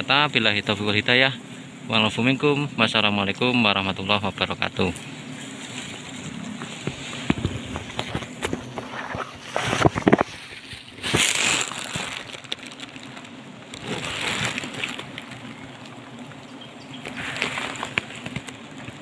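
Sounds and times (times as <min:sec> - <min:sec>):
honeybee colony humming: 0:00.0 - 0:19.0
leaves and twigs rustling: 0:01.9 - 0:19.0.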